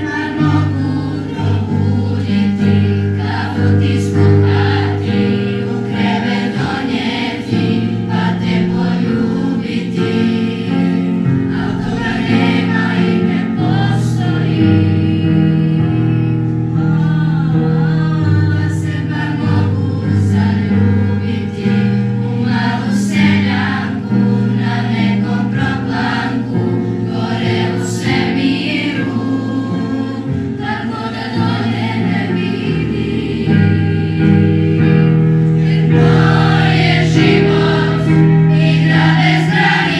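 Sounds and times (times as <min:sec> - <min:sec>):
children's choir singing: 0:00.0 - 0:39.9
piano accompaniment: 0:00.0 - 0:39.9.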